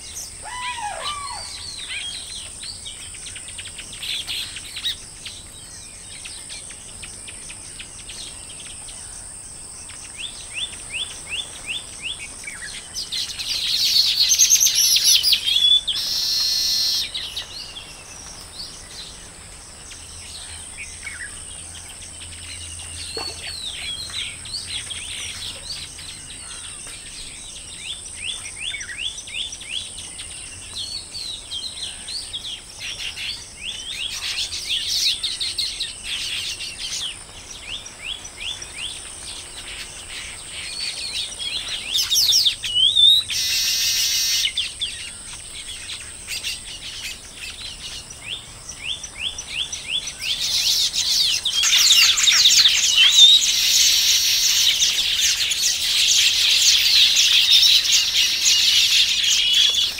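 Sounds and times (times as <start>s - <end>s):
birds chattering and chirping: 0.0s - 59.9s
loud massed bird calls: 0.0s - 59.9s.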